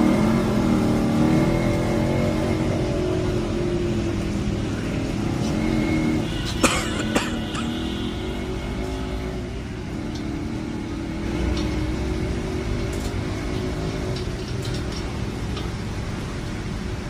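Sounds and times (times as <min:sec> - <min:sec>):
engine humming: 0:00.0 - 0:17.0
road traffic rumble: 0:00.0 - 0:17.0.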